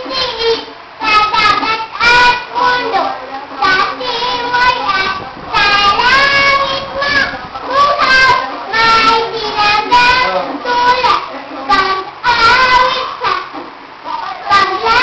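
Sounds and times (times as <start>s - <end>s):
child singing: 0.0s - 15.0s.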